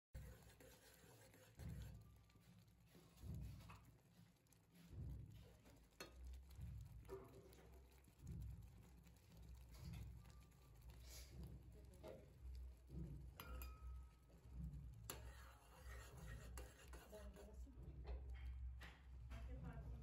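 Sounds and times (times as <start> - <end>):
halwa simmering with soft pops: 0.1 - 20.0.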